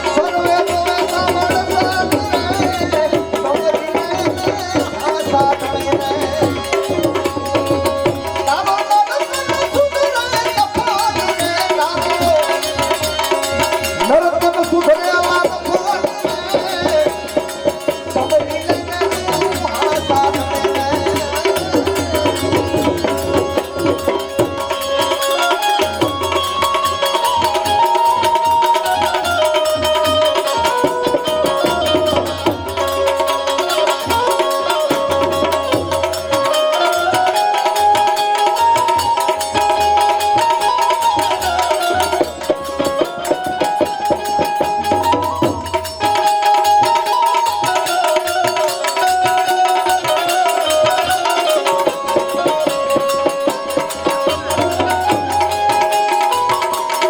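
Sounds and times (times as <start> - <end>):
instrumental melody line: 0.0 - 57.0
tabla rhythm: 0.0 - 57.0.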